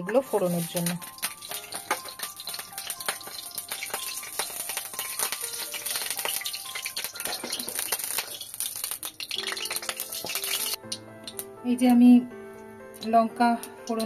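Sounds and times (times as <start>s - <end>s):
hot oil sizzling and crackling: 0.0s - 11.5s, 13.0s - 14.0s.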